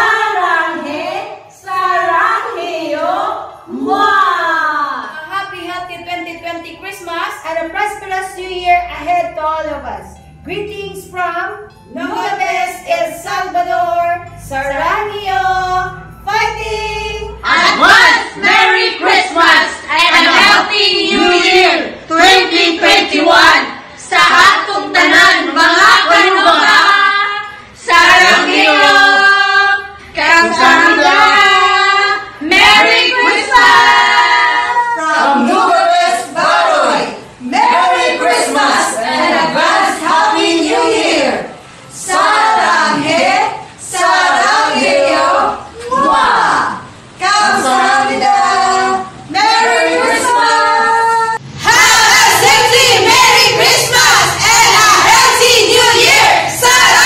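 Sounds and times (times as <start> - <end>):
group singing without instruments: 0.0 - 5.2, 11.7 - 57.0.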